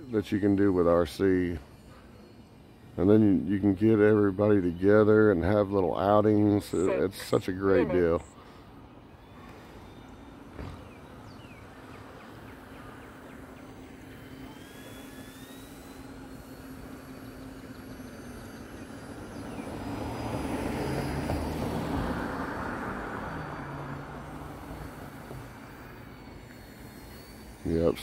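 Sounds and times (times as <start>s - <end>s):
model airplane motor whine: 0.0s - 28.0s.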